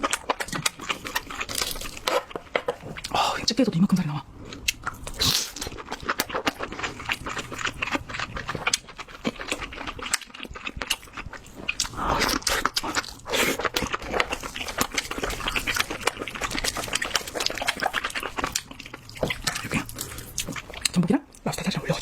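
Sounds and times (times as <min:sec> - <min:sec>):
wet chewing and lip smacks: 0:00.0 - 0:03.2, 0:04.5 - 0:21.7.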